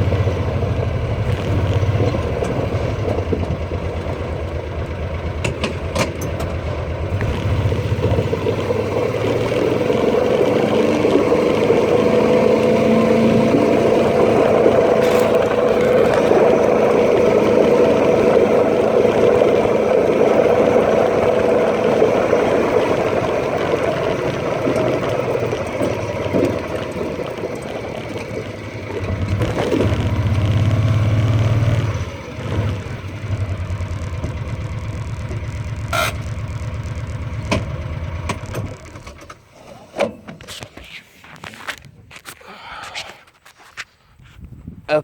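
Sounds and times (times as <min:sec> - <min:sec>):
vehicle engine running: 0:00.0 - 0:39.5.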